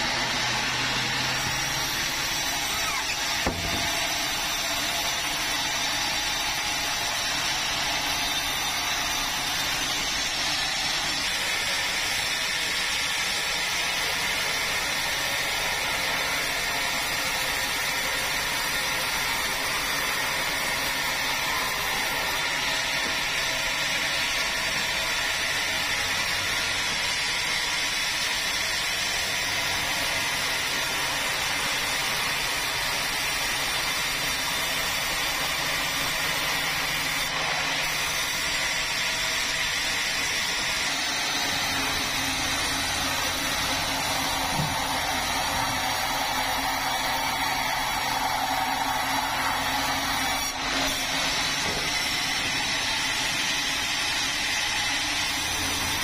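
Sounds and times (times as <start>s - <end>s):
motorised saw cutting log: 0.0s - 56.0s.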